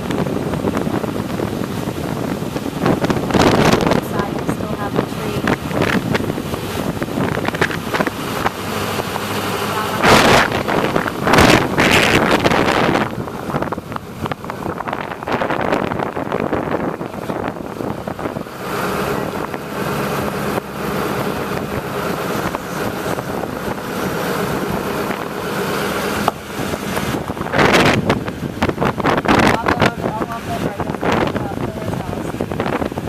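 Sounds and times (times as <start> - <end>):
motor engine running: 0.0 - 33.0
wind buffeting microphone: 0.0 - 33.0.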